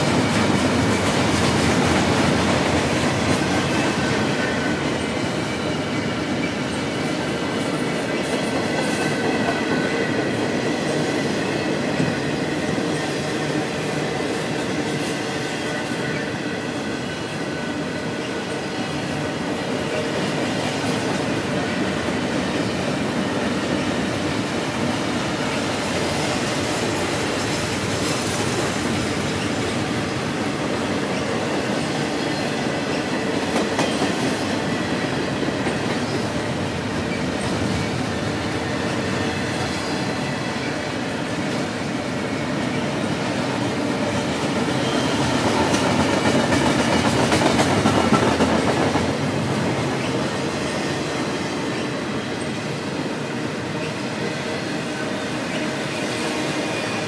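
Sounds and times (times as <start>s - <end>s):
train wheels roaring on rail: 0.0s - 57.0s.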